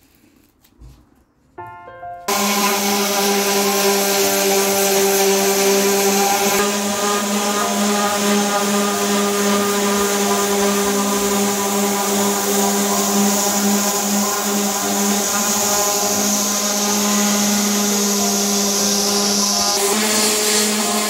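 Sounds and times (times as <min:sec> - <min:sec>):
electric sander running: 0:02.3 - 0:21.0.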